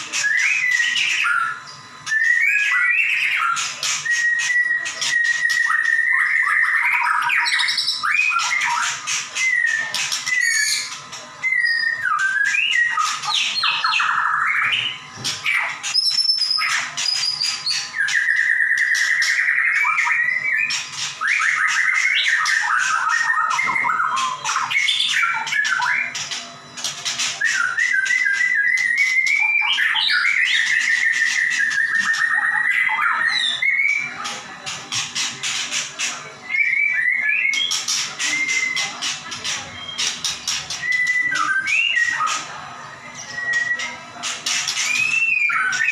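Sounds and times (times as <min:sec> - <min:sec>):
songbird singing whistles and trills: 0:00.0 - 0:35.7, 0:36.4 - 0:45.9.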